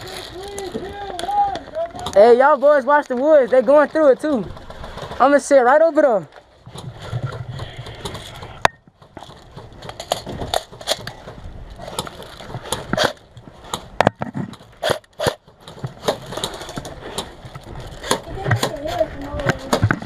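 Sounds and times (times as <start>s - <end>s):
crunching footsteps: 0.0s - 20.0s.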